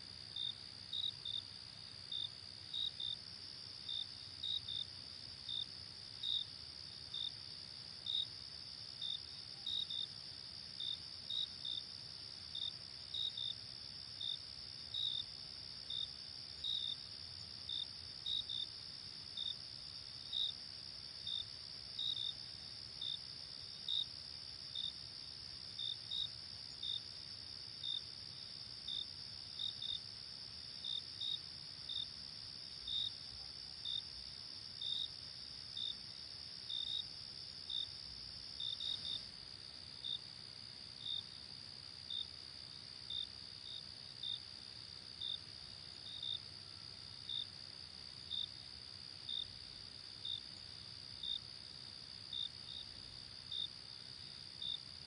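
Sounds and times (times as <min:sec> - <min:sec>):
cricket chirps: 0:00.0 - 0:55.0.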